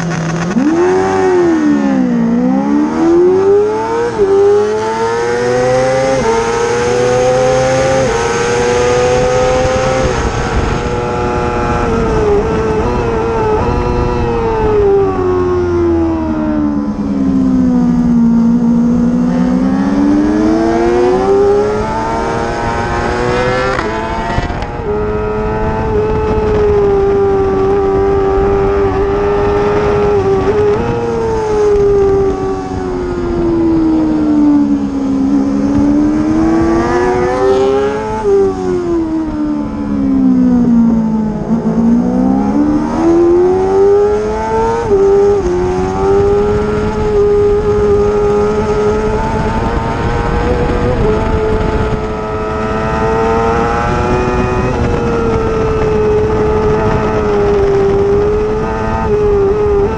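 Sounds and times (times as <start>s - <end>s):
racing motorcycle engine: 0.0s - 59.9s.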